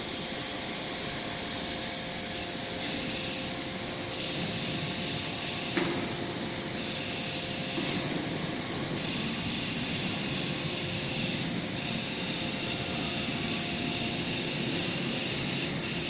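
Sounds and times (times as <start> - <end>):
faint machinery hum: 0.0 - 16.0.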